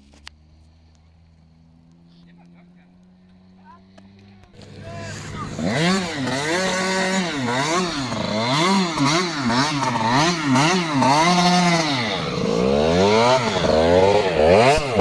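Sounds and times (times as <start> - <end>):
two-stroke engine revving: 1.5 - 15.0.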